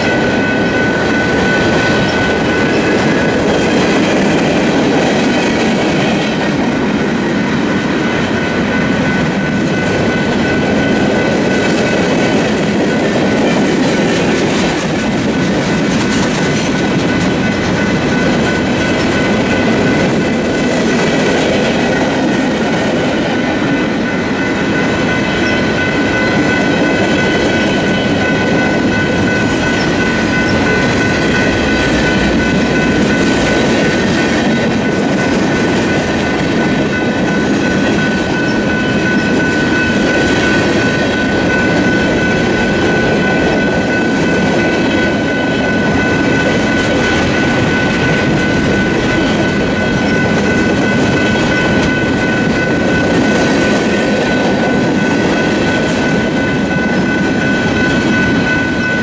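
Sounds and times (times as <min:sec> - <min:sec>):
crossing bells ringing: 0:00.0 - 0:59.0
empty freight cars rattling: 0:00.0 - 0:59.0
train wheels clacking: 0:00.0 - 0:59.0.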